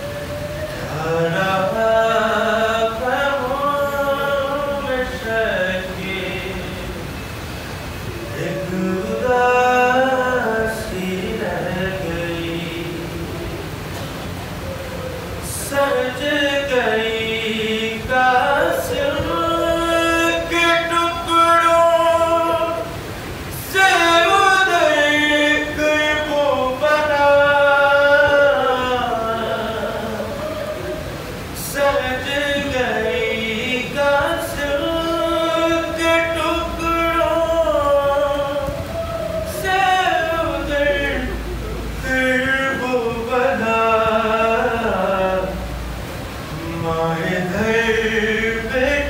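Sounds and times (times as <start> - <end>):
man chanting a lament: 0.0 - 7.1, 8.2 - 13.6, 15.4 - 45.7, 46.5 - 49.0
man singing unaccompanied: 0.0 - 49.0.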